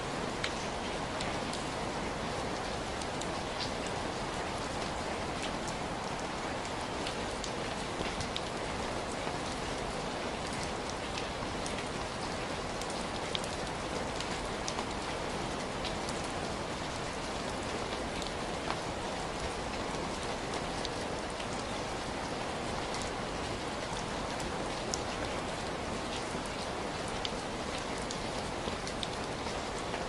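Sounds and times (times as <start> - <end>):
raindrops ticking on surface: 0.1 - 30.0.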